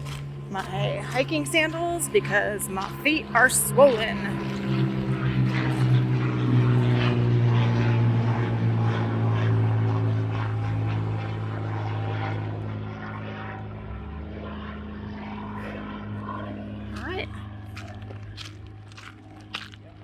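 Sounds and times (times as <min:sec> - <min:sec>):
propeller aircraft droning overhead: 0:00.0 - 0:20.0.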